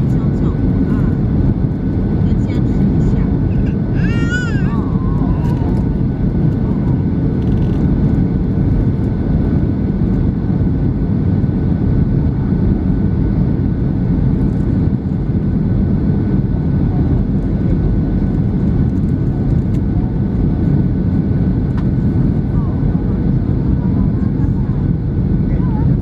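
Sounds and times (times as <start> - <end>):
aircraft cabin engine rumble: 0.0 - 26.0.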